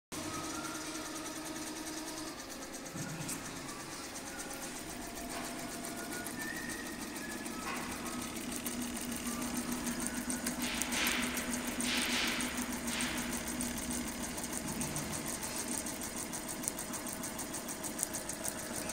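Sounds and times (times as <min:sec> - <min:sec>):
embroidery machine needle clatter: 0:00.2 - 0:18.9
low machine hum: 0:00.2 - 0:18.9.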